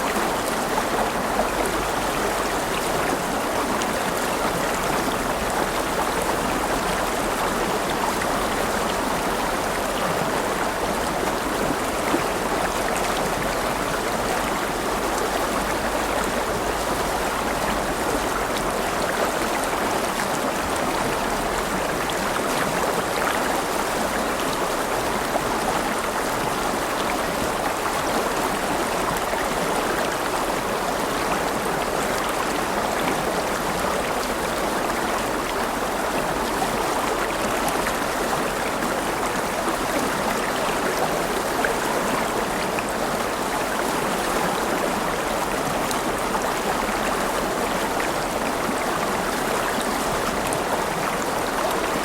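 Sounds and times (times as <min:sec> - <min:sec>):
river water rushing over stones: 0:00.0 - 0:52.0.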